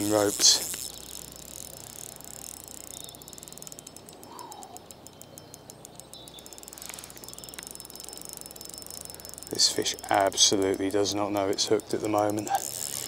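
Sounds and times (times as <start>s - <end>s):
fishing reel drag ticking: 0.0s - 13.0s.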